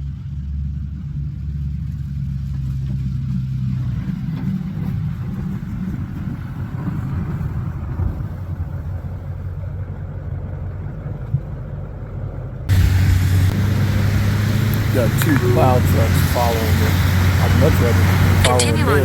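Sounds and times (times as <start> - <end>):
truck engine rumbling: 0.0 - 19.0
road noise: 1.6 - 19.0.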